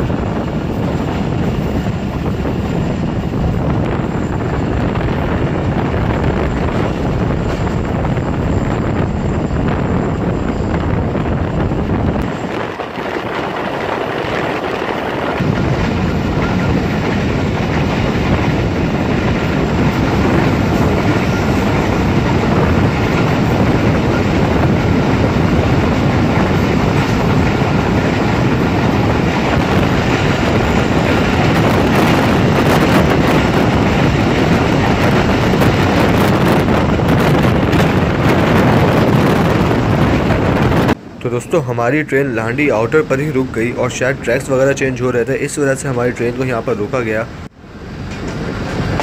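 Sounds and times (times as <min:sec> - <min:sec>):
train rumbling on track: 0:00.0 - 0:49.0.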